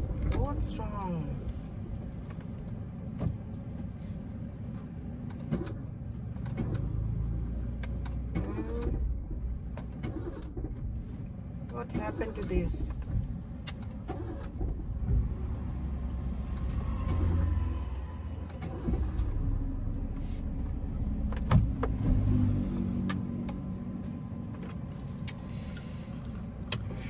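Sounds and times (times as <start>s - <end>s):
car engine running: 0.0s - 27.0s
keys jangling in ignition: 2.2s - 14.7s, 15.3s - 27.0s.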